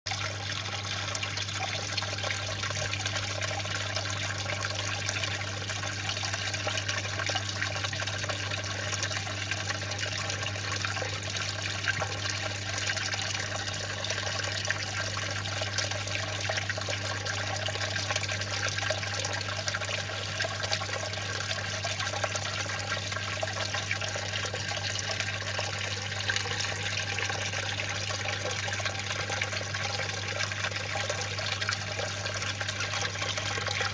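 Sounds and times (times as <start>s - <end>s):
pump humming: 0.1s - 33.9s
water trickling and bubbling: 0.1s - 33.9s.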